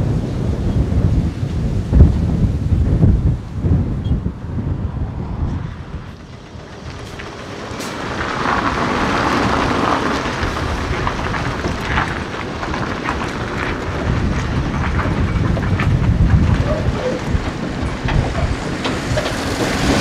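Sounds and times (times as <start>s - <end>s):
truck engine and tyres rumbling: 0.0s - 20.0s.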